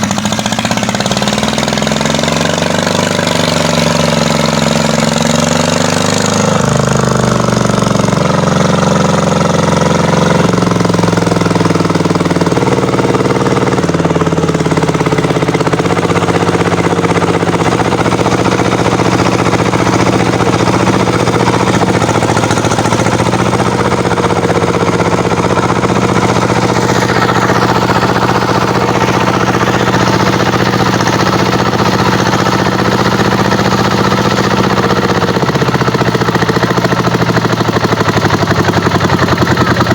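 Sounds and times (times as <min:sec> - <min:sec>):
tractor diesel engine clattering: 0:00.0 - 0:39.9.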